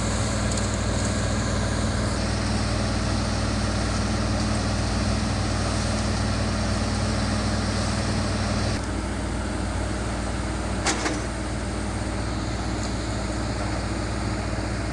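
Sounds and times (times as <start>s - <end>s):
construction machinery engine running: 0.0s - 14.9s.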